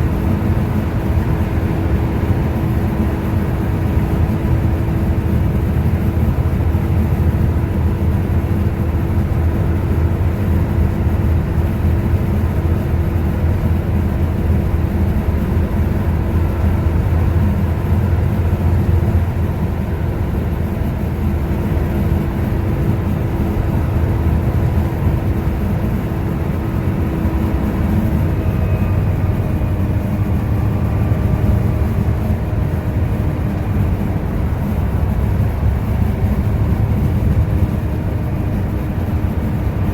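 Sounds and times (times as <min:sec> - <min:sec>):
bus engine drone with whine: 0:00.0 - 0:39.9.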